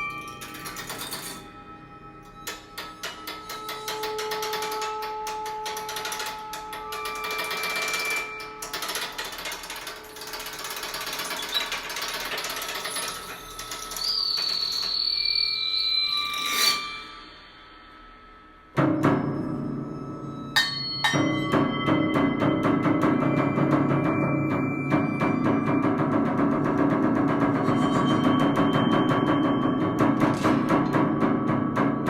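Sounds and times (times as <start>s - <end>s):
held ringing tones: 0.0s - 26.6s.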